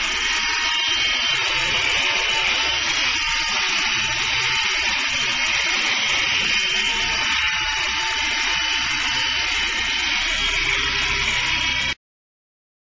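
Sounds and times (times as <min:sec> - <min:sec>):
toy helicopter motor whine: 0:00.0 - 0:12.0.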